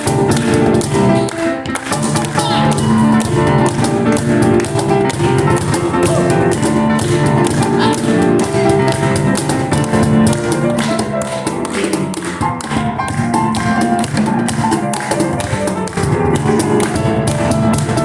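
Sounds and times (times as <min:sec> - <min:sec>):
acoustic piano playing fast lines: 0:00.0 - 0:18.0
cajon slaps and knocks: 0:00.0 - 0:18.0.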